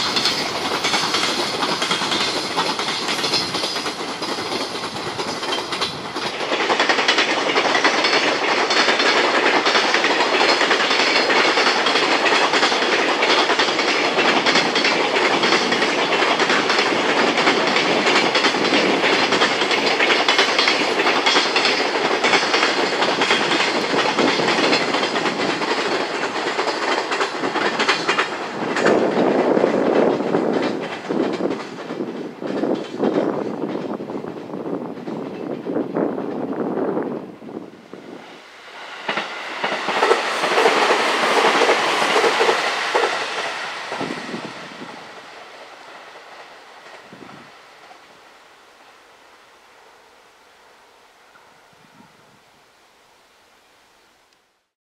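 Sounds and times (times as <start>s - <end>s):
wheels clattering over rails: 0.0s - 36.6s, 38.2s - 48.0s
freight train wagons rumbling: 0.0s - 52.4s.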